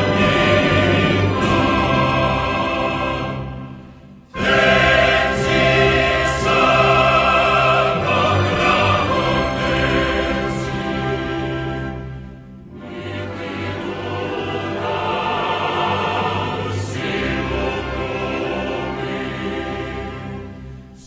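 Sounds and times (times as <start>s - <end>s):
choir singing with orchestra: 0.0s - 21.0s.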